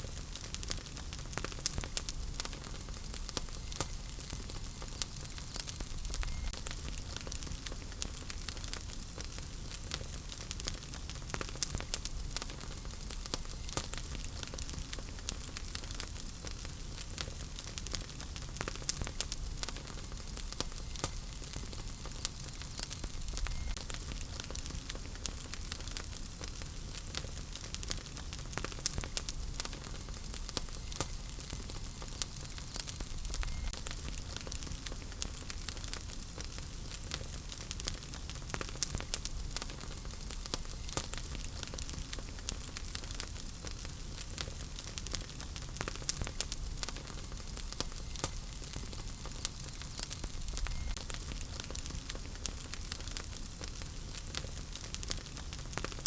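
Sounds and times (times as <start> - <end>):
fire crackling and popping: 0.0 - 56.0
hiss and rumble of flames: 0.0 - 56.0.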